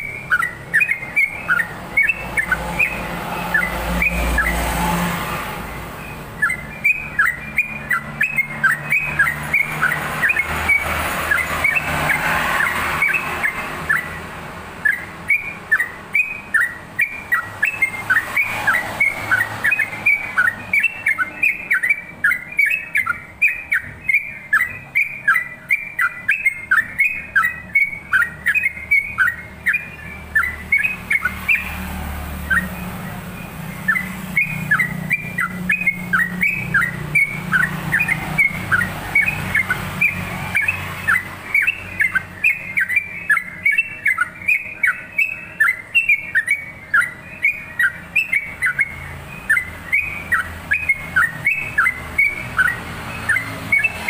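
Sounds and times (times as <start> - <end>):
bulbul singing whistled notes: 0.0 - 54.0.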